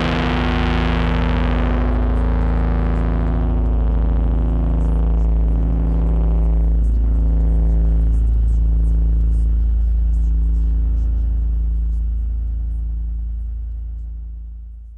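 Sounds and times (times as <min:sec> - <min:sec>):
distorted low drone: 0:00.0 - 0:14.9.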